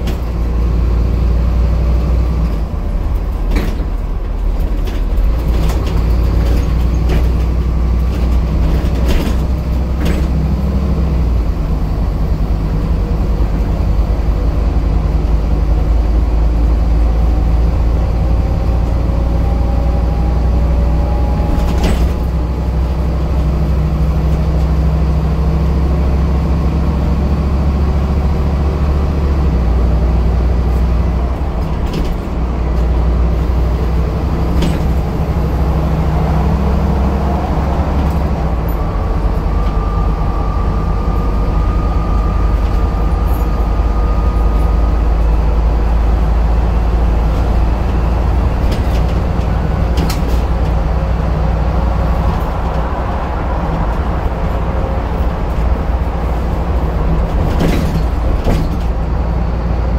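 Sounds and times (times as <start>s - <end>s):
bus diesel engine drone: 0.0s - 59.9s
knocks and rattles from bus body: 0.0s - 59.9s.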